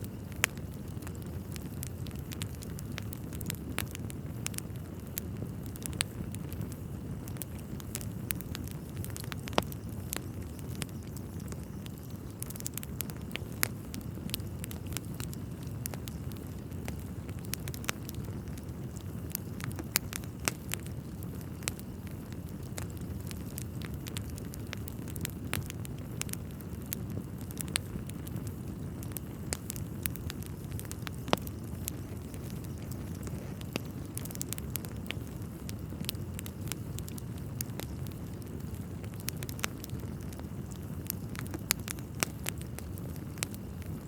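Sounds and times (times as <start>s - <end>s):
logs crackling and popping: 0.0s - 44.0s
low rumble of flames: 0.0s - 44.0s.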